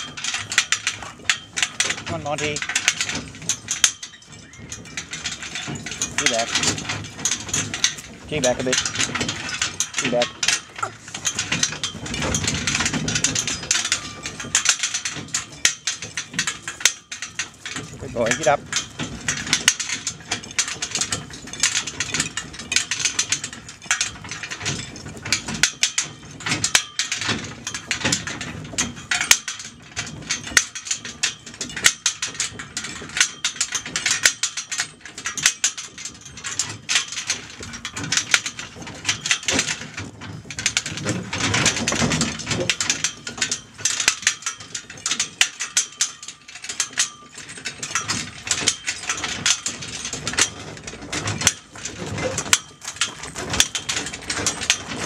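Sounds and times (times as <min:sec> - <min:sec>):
chain harness rattling and clinking: 0:00.0 - 0:55.0.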